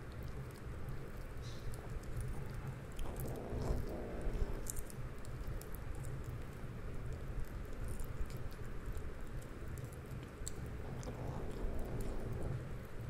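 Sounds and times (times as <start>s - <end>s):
kitten chewing: 0.0s - 13.0s
steady low hum: 0.0s - 13.0s.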